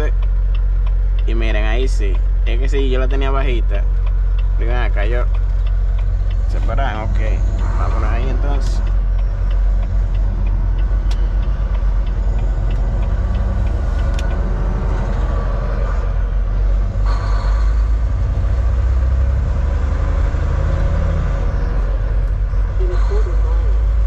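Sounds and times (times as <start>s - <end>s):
faint regular ticking: 0.0s - 19.5s
truck engine and road drone: 0.0s - 24.0s.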